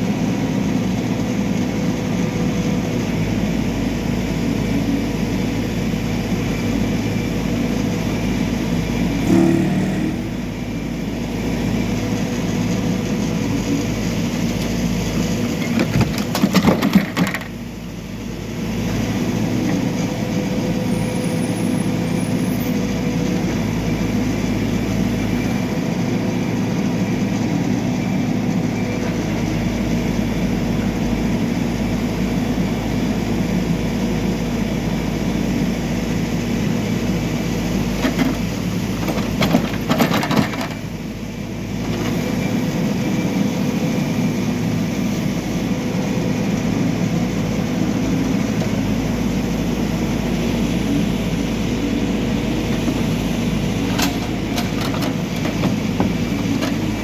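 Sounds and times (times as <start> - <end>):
backhoe diesel engine running: 0.0 - 57.0.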